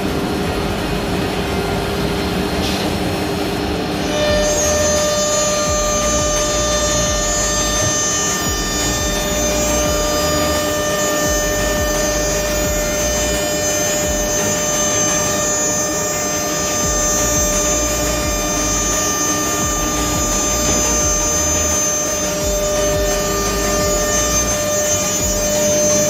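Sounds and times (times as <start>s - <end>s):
high multi-tone spindle whine: 0.0s - 26.0s
router machine noise: 3.6s - 26.0s.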